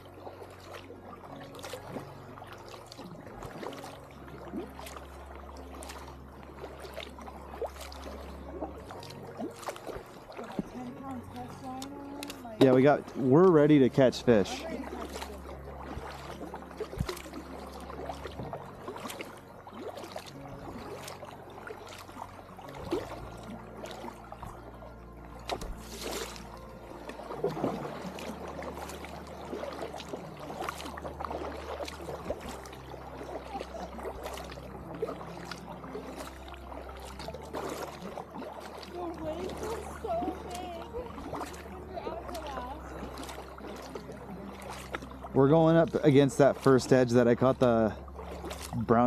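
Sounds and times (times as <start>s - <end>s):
paddle splashing in water: 0.0s - 49.0s
water trickling off paddle: 0.0s - 49.0s.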